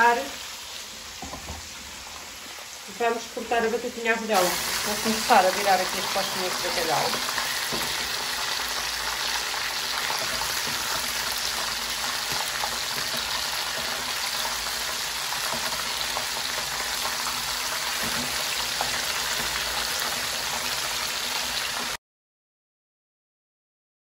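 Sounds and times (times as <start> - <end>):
fish frying in oil: 0.0 - 22.0.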